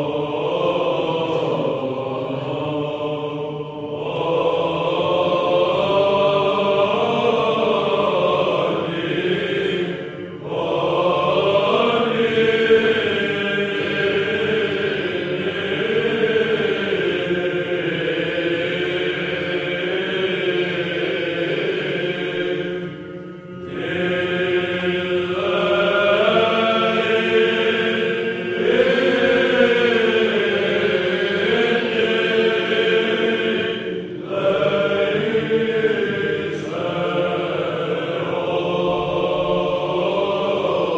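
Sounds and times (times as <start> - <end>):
chanting voices: 0.0 - 40.9.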